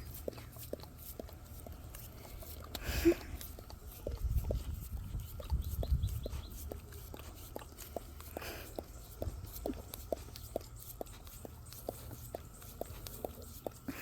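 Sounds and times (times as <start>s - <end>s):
dog licking: 0.0s - 14.0s.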